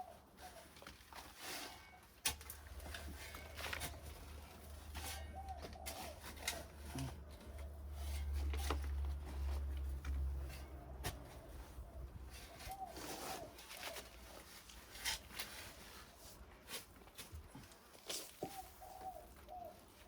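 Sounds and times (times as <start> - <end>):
soil scraping and rustling: 0.0 - 20.0.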